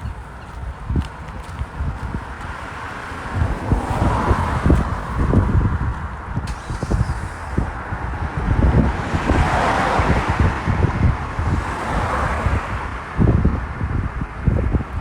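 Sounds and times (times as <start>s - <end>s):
car passing on road: 0.0s - 15.0s
wind buffeting microphone: 0.0s - 15.0s.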